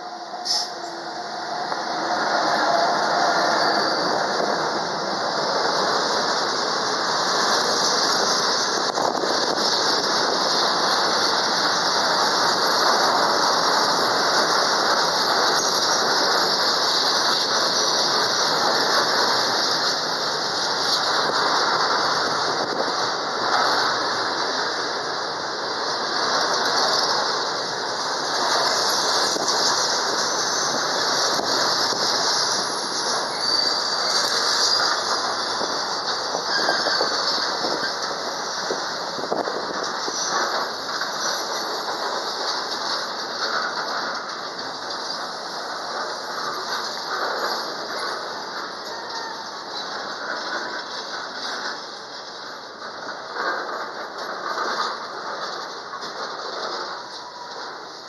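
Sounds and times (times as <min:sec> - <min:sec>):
freight wagons rolling on rails: 0:00.0 - 0:58.0
steel wheels screeching on rails: 0:00.0 - 0:58.0.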